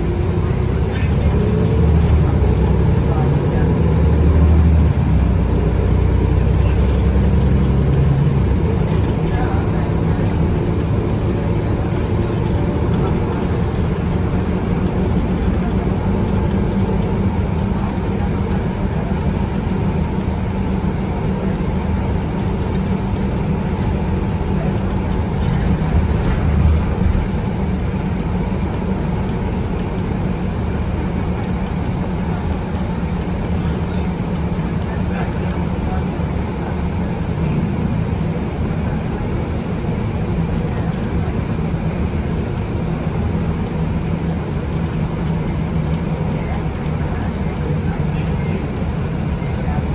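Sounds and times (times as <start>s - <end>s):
bus diesel engine running: 0.0s - 49.9s
tyre and road noise: 0.0s - 49.9s.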